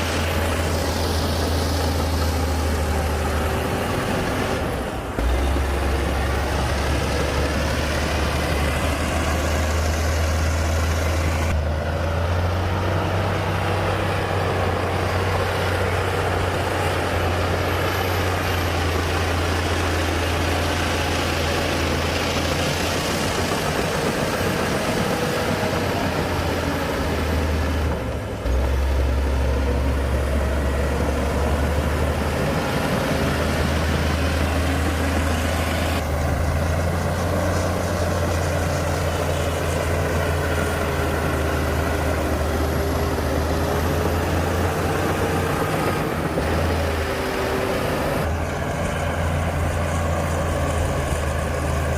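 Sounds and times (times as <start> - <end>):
heavy diesel engine droning: 0.0 - 51.9.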